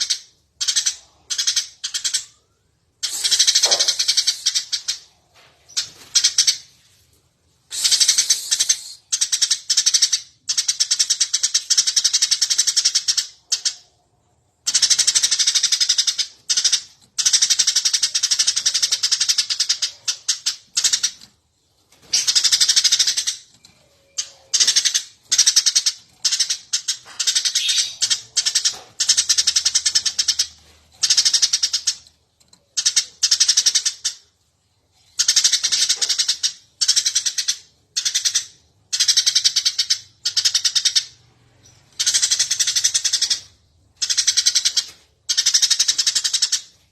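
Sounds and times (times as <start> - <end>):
sparrow chirping: 0.0 - 6.8, 7.7 - 13.9, 14.6 - 32.1, 35.0 - 46.8.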